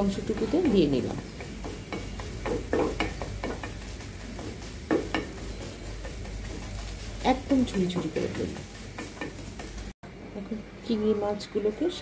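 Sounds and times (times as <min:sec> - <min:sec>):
spatula scraping frying pan: 0:00.0 - 0:10.0
light sizzle: 0:00.0 - 0:12.0.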